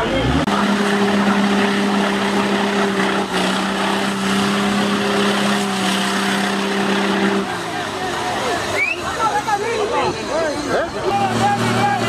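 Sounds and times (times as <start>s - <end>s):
engine at high revs: 0.0s - 12.0s.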